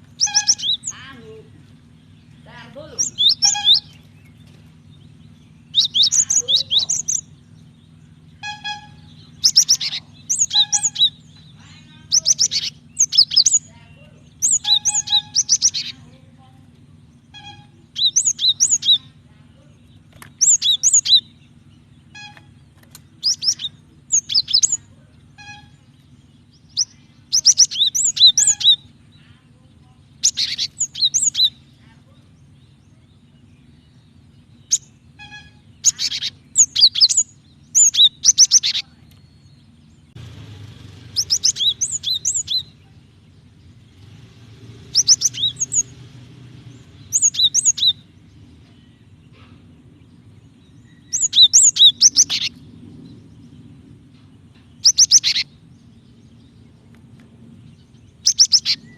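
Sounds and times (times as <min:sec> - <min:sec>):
bird chirping: 0:00.0 - 0:58.9
faint low hum: 0:00.0 - 0:58.9.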